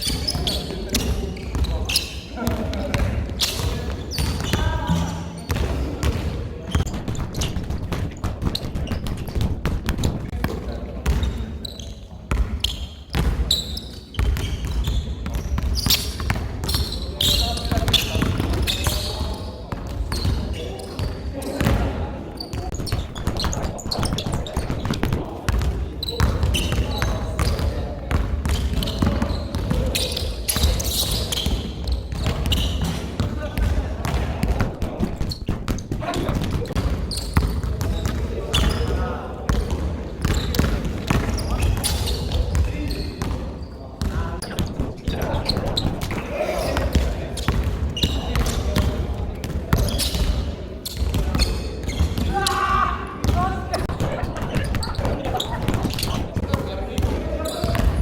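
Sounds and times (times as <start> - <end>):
sneakers squeaking on court: 0.0 - 58.0
basketball bouncing on court: 0.1 - 58.0.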